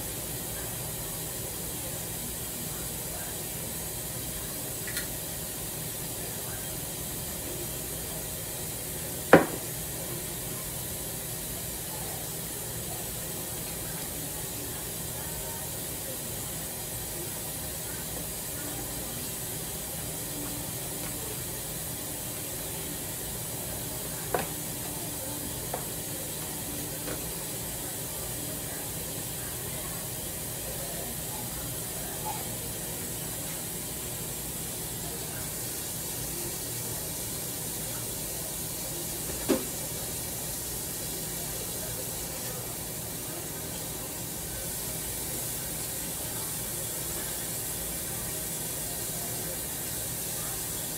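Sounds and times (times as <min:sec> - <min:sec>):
stove hissing: 0:00.0 - 0:50.9.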